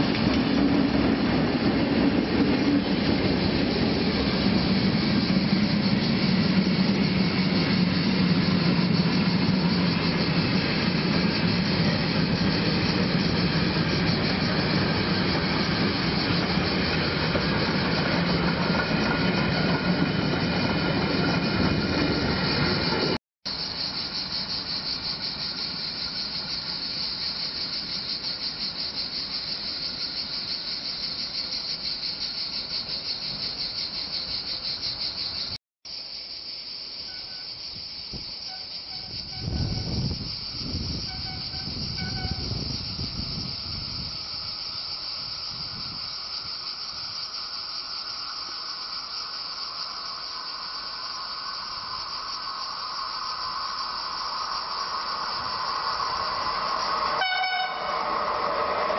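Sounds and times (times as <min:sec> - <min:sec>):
distant train humming: 0:00.0 - 0:35.5, 0:46.1 - 0:58.9
freight train rolling past: 0:00.0 - 0:35.6, 0:38.4 - 0:58.9
cicadas buzzing: 0:00.0 - 0:58.9.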